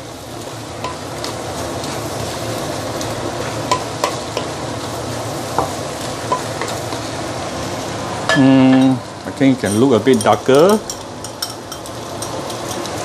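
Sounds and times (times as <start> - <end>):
food sizzling in a wok: 0.0 - 13.0
spatula stirring food: 0.1 - 8.0, 9.6 - 13.0.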